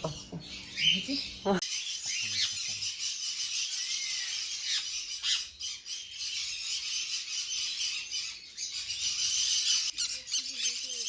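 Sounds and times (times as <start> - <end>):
parrots chattering: 0.0 - 11.0.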